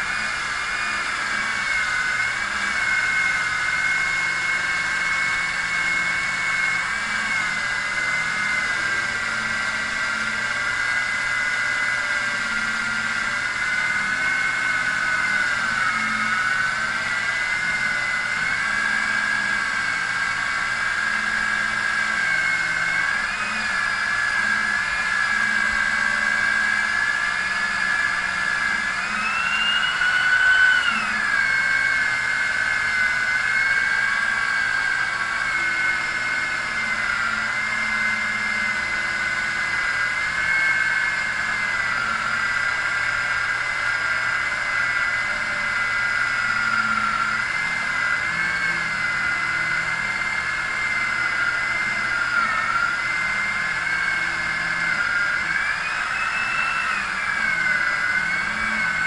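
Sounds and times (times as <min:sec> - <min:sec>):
machine motor whining: 0:00.0 - 0:59.0.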